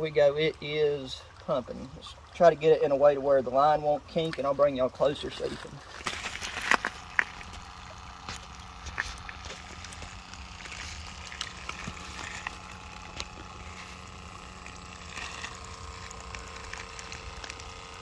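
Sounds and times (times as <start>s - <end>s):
electric pump humming: 0.0s - 18.0s
pump ticks and gurgles: 0.0s - 18.0s.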